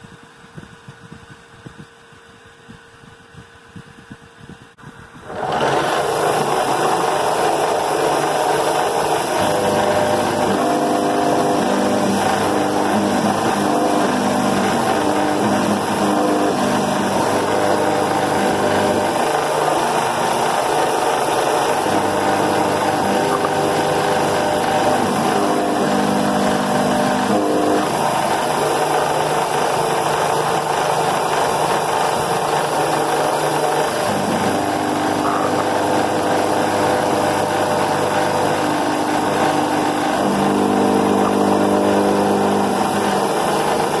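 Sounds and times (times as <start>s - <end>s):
milling machine cutting metal: 5.2s - 44.0s.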